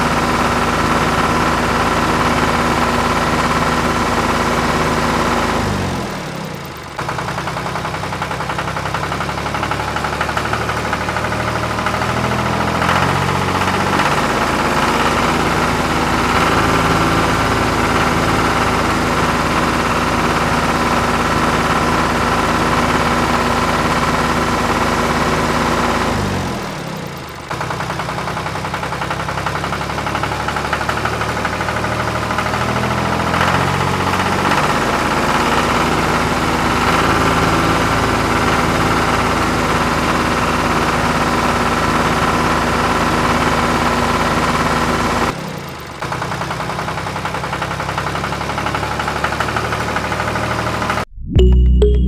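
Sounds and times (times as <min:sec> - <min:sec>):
tractor engine idling: 0:00.0 - 0:50.6.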